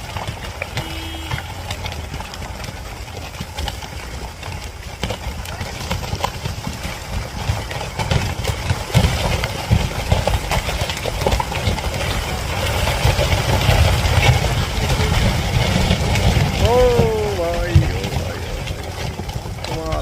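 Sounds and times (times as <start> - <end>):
clicks and rattles: 0.0 - 20.0
heavy vehicle engine rumbling: 0.0 - 20.0.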